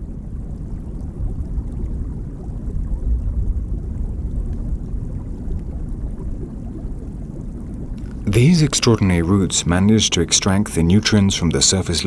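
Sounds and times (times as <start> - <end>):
underwater rumble of moving water: 0.0 - 12.0.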